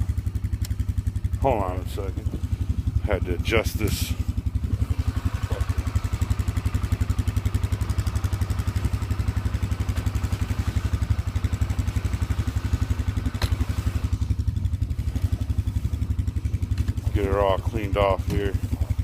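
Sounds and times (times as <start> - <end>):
atv engine idling: 0.0 - 19.0.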